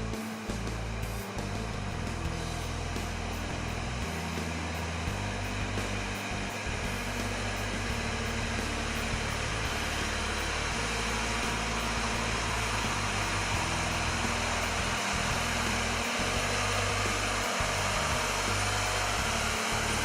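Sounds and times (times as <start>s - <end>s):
tractor diesel engine idling: 0.9s - 20.0s.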